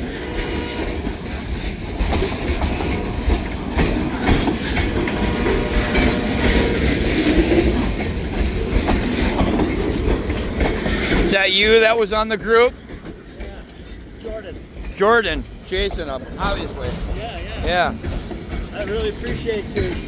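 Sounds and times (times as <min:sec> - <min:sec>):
freight train rumbling past: 0:00.0 - 0:20.0
wheels clicking over rail joints: 0:00.0 - 0:20.0.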